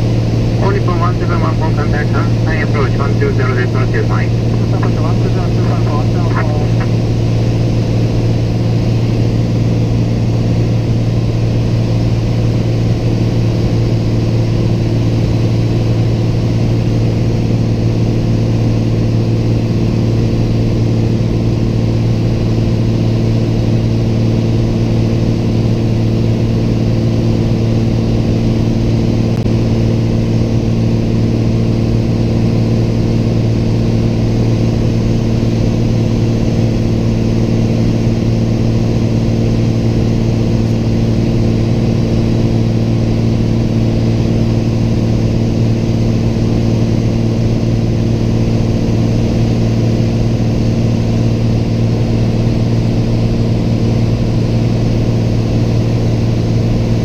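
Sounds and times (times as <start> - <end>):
light aircraft engine drone in cabin: 0.0 - 57.0.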